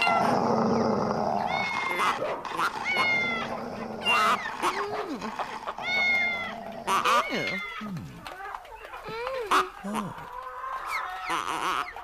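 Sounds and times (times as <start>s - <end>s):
animal noises: 0.0s - 12.0s.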